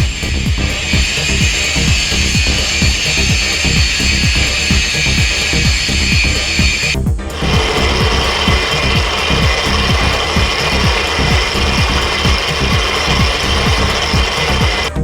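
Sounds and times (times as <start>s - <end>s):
fast low clatter: 0.0s - 15.0s
lathe cutting metal: 0.0s - 15.0s.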